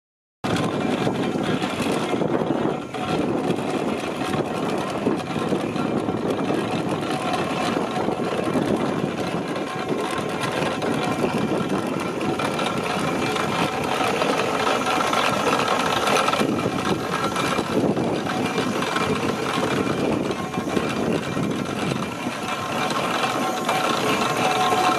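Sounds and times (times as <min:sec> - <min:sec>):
clatter of working parts: 0:00.4 - 0:24.9
steam engine exhaust beat: 0:00.5 - 0:24.9.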